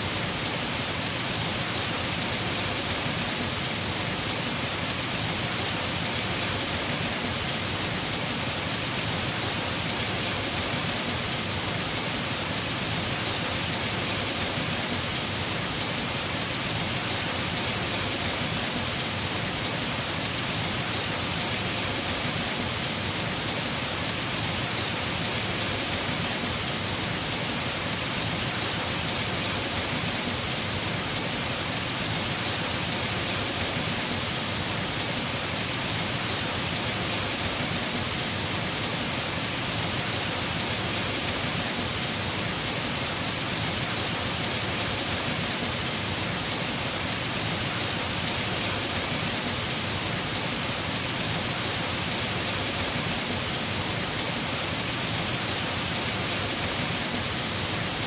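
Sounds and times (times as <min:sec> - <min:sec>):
heavy rain on roof: 0:00.0 - 0:58.0.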